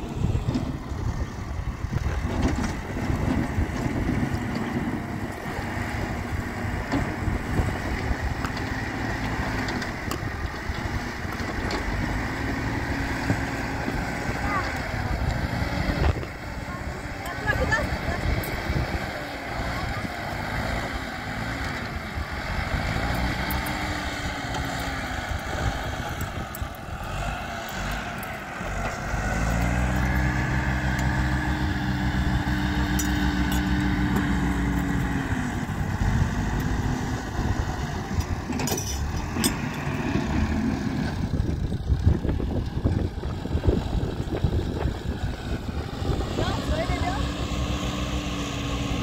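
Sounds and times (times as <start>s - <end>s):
tractor engine revving: 0.0s - 49.0s.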